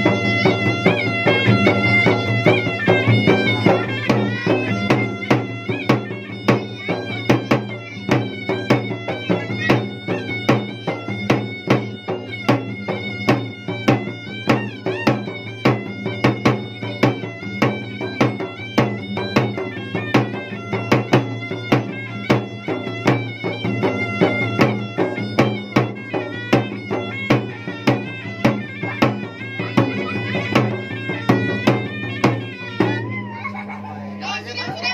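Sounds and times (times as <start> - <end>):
drums beaten quickly: 0.0 - 34.9
nasal reed-pipe melody: 0.0 - 34.9.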